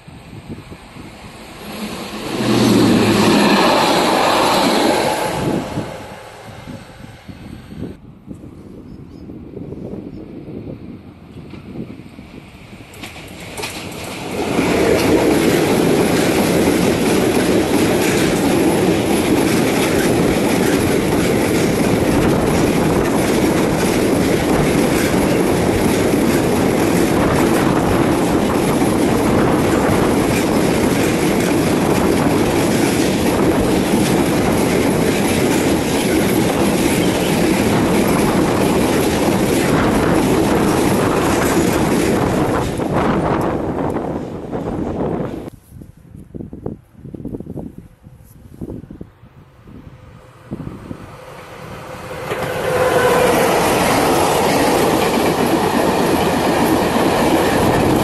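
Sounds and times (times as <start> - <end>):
train wheels on rails: 0.0 - 8.0, 11.3 - 45.6, 50.2 - 58.0
electric locomotive passing: 0.0 - 8.1, 10.4 - 45.5, 49.2 - 58.0.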